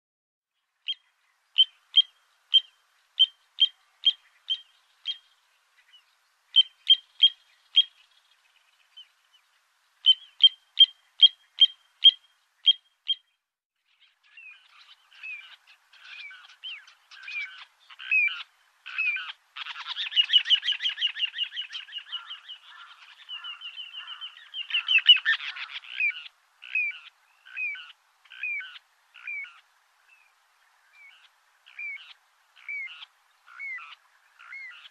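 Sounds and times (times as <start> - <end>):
bird piping calls and trills: 0.8 - 34.9.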